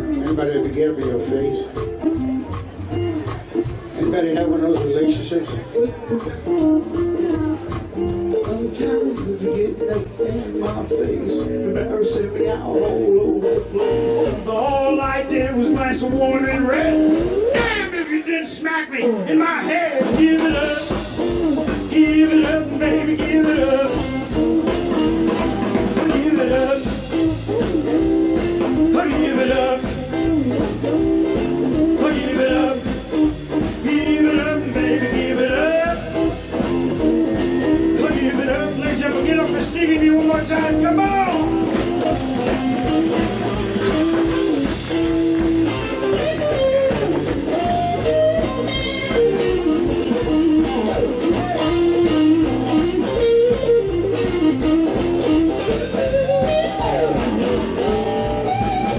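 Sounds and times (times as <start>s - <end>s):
steady drum beat: 0.0s - 18.6s, 19.8s - 58.9s
bass guitar: 0.0s - 58.9s
electric guitar lead with bends: 0.0s - 58.9s.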